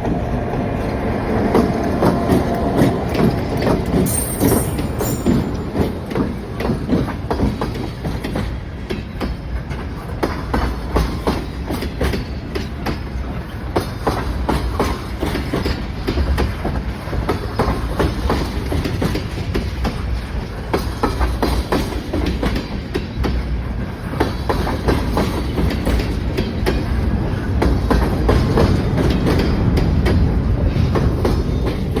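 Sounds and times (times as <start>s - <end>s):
freight train low rumble: 0.0s - 32.0s
train wheels clicking over rail joints: 0.0s - 32.0s.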